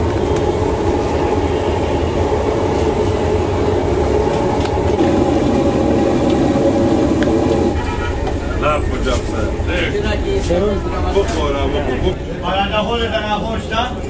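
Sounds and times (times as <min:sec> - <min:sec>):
street stall roar: 0:00.0 - 0:14.0.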